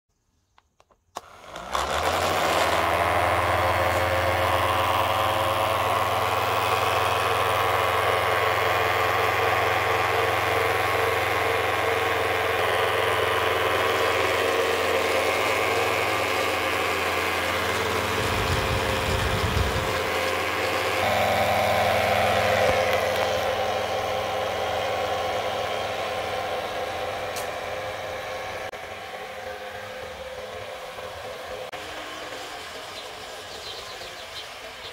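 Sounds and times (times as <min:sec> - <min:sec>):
small electric motors whirring: 0:00.8 - 0:34.9.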